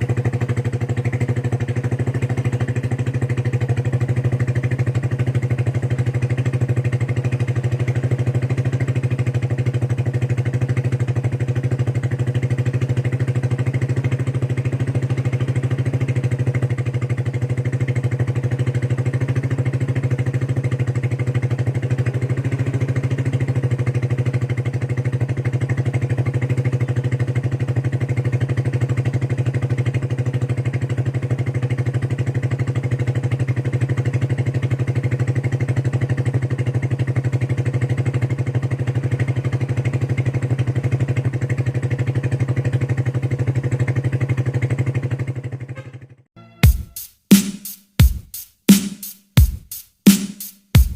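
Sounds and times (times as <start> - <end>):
motorcycle engine idling: 0.0 - 47.0.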